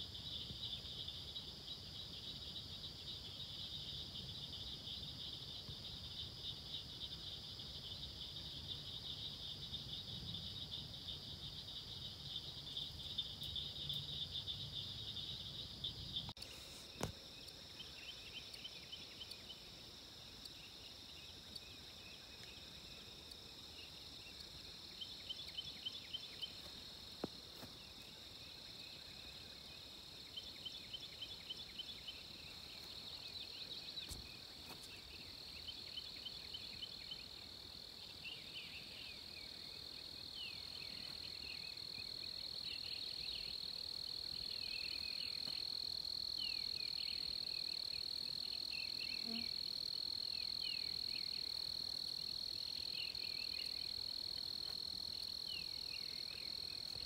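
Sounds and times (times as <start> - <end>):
insects trilling: 0.0 - 57.0
rapid insect chirps: 0.0 - 57.0.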